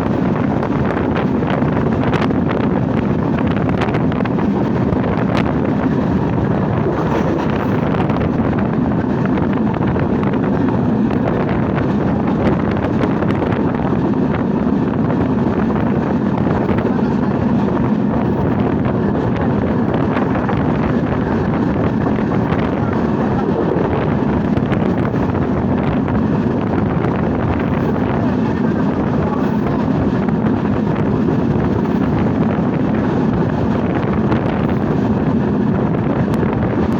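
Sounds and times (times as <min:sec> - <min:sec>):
passenger train rushing at speed: 0:00.0 - 0:36.9
wind buffeting microphone: 0:00.0 - 0:36.9.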